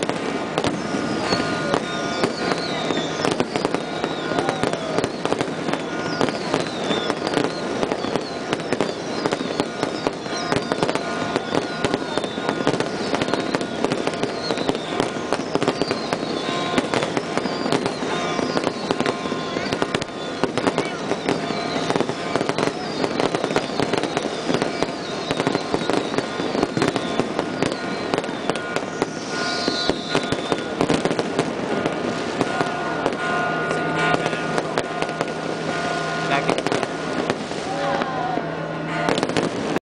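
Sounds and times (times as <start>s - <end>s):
falling firework whistles: 0.0s - 33.2s
bells ringing: 0.0s - 39.8s
fireworks bangs and crackles: 0.0s - 39.8s.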